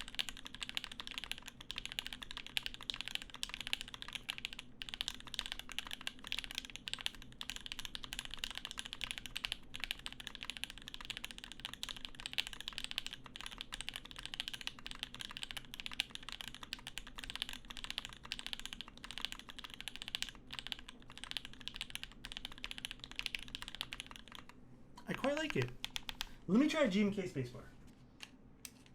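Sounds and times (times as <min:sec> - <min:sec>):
fast typing on mechanical keyboard: 0:00.0 - 0:26.4.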